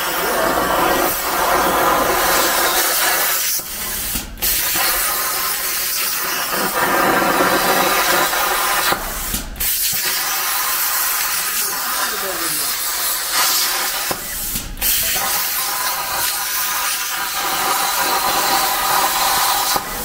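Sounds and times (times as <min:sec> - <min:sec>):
plasma cutter hissing: 0:00.0 - 0:20.0.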